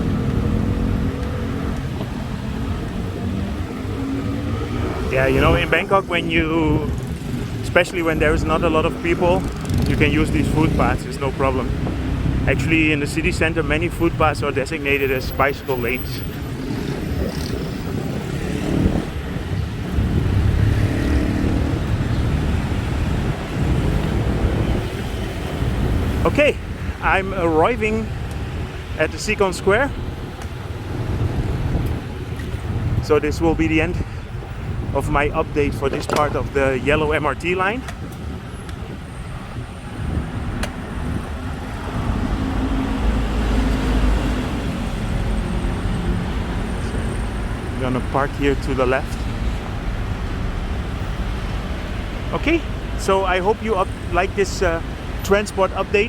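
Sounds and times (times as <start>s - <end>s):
wind rumble on microphone: 0.0s - 53.0s
road traffic passing: 0.0s - 56.0s.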